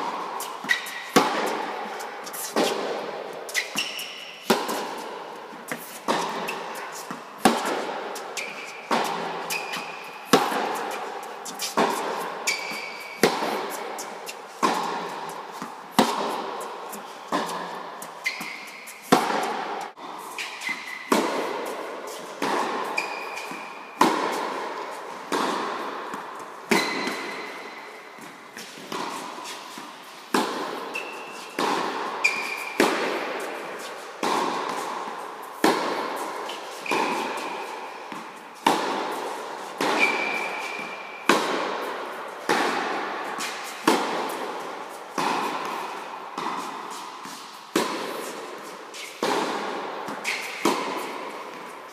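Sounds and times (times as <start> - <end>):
tennis balls struck by rackets: 0.0 - 51.8.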